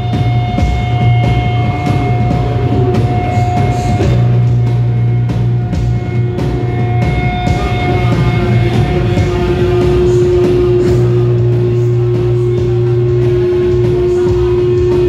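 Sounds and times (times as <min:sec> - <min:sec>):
droning electronic tones: 0:00.0 - 0:15.0
drum kit beating: 0:00.0 - 0:15.0
electric guitar: 0:00.0 - 0:15.0
loud noise rock: 0:00.0 - 0:15.0.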